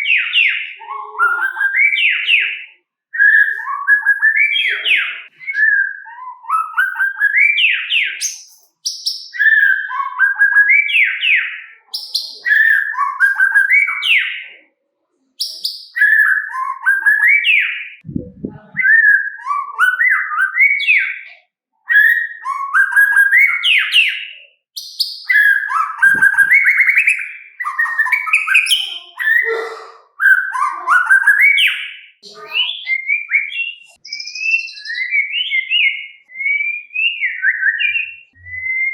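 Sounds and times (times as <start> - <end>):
songbird whistling: 3.2 - 14.3, 15.4 - 21.2, 21.9 - 32.0, 32.7 - 38.9.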